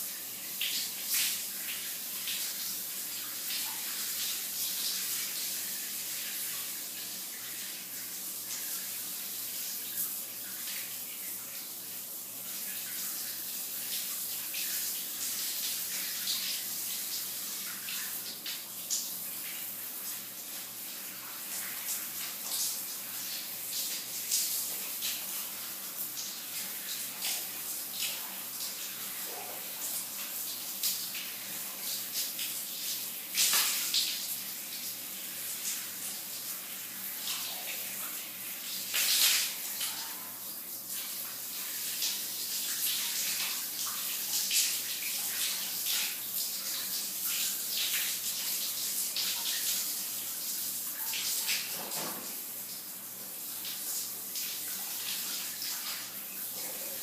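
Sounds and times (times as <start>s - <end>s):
shower water hissing: 0.0s - 57.0s.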